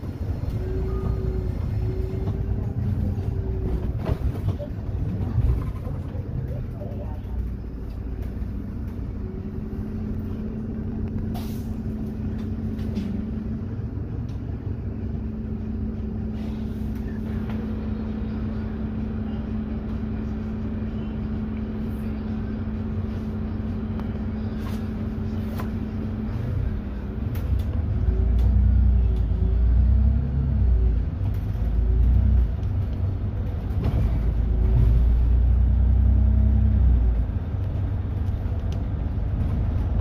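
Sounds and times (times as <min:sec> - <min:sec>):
bus engine drone: 0:00.0 - 0:40.0.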